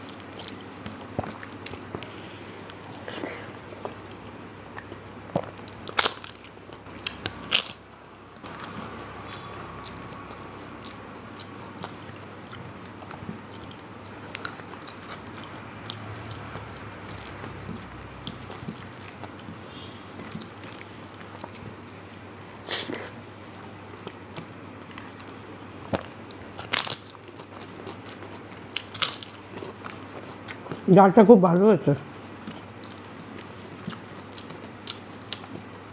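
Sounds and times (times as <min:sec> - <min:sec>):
chewing food: 0:00.0 - 0:30.9, 0:32.1 - 0:35.9
steady low hum: 0:00.0 - 0:35.9.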